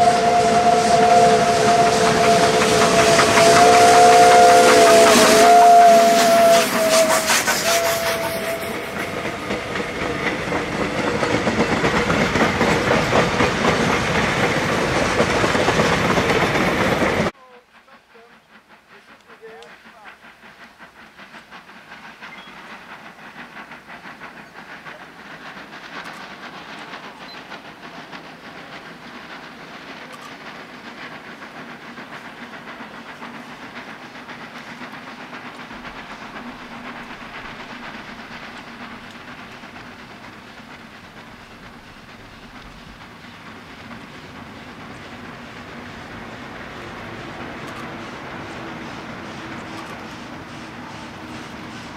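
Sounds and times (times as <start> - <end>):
steam hissing: 0.0 - 51.9
steam locomotive chuffing: 0.0 - 51.9.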